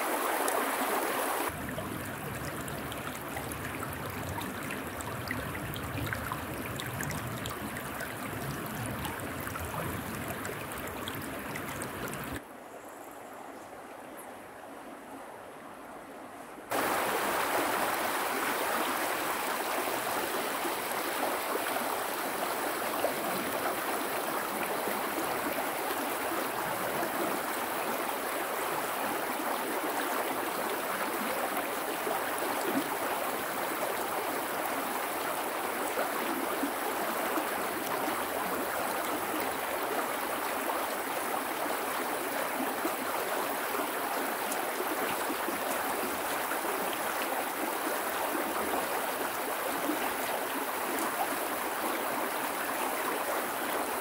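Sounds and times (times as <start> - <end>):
river water rushing: 0.0 - 12.4, 16.7 - 54.0.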